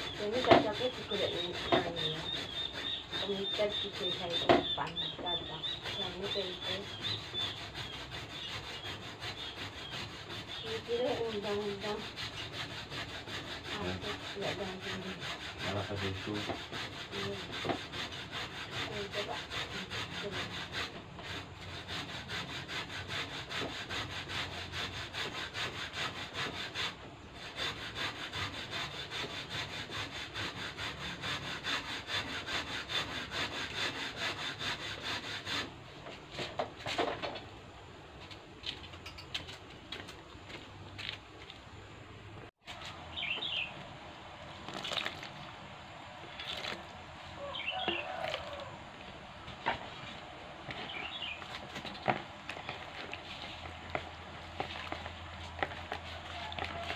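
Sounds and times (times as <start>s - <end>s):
hand tool scraping: 0.0s - 41.6s, 42.5s - 43.8s, 46.2s - 56.9s.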